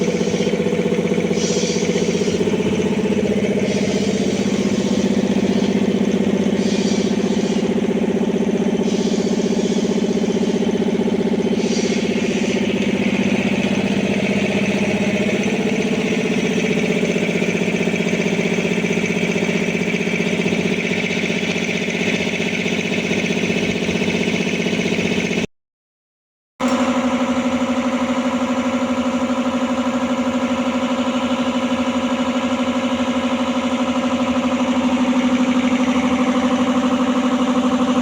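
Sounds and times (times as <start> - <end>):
air compressor running: 0.0 - 25.5, 26.6 - 38.0.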